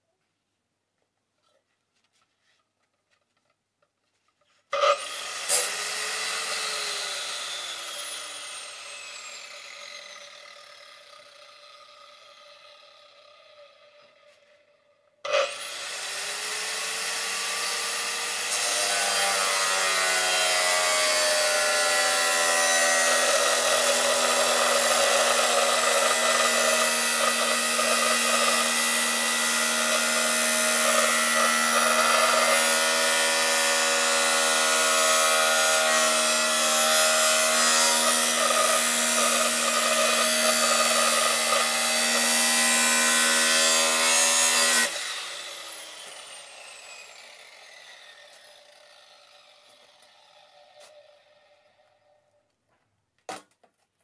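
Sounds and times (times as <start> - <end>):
angle grinder cutting steel: 4.7 - 14.7, 15.3 - 52.2.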